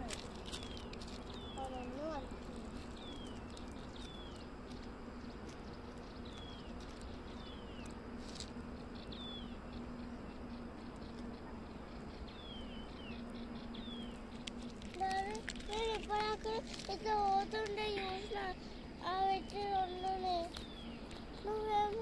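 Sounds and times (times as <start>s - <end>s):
bird chirping: 0.0s - 22.0s
steady low hum: 0.0s - 22.0s.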